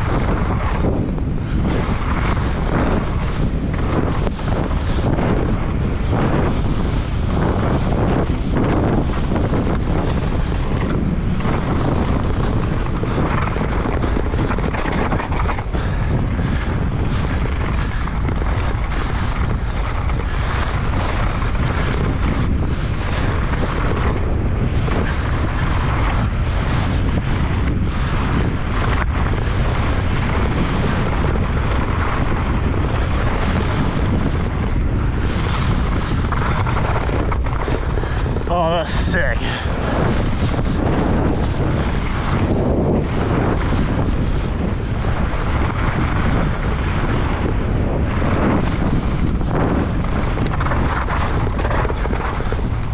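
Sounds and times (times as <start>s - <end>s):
bike knocks and rattles: 0.0s - 52.9s
low rumble: 0.0s - 52.9s
wind rushing over microphone: 0.0s - 52.9s.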